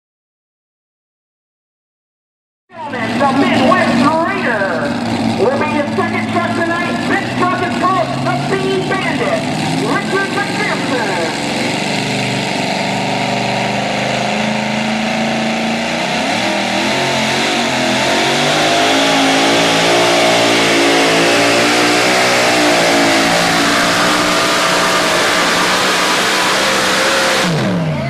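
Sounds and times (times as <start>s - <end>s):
truck engine at high revs: 2.8s - 28.0s.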